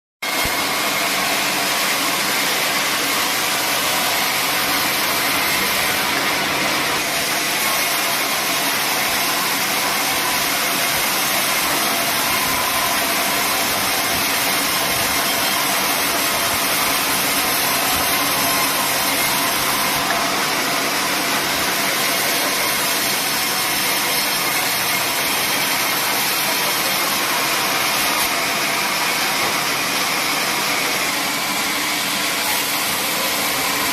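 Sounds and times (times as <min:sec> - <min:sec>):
sawmill machinery whirring: 0:00.2 - 0:33.9.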